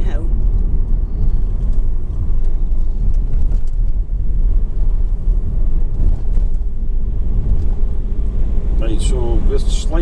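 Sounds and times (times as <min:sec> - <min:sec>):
vehicle rumble inside cabin: 0:00.0 - 0:10.0.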